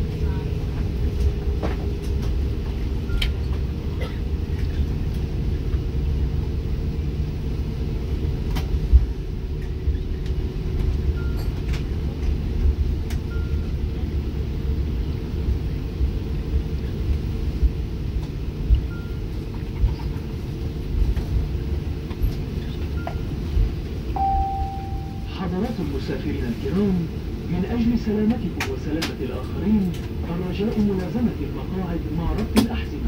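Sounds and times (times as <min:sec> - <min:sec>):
airplane cabin rumble: 0:00.0 - 0:33.0.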